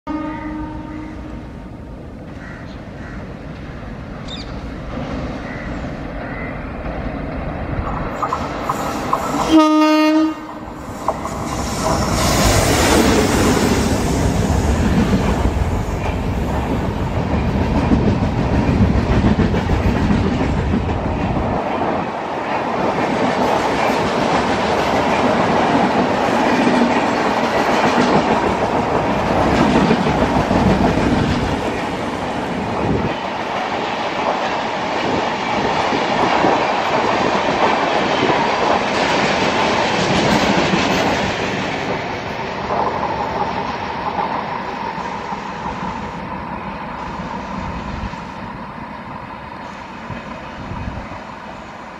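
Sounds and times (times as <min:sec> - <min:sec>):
train wheels rushing on rails: 0:00.7 - 0:51.9.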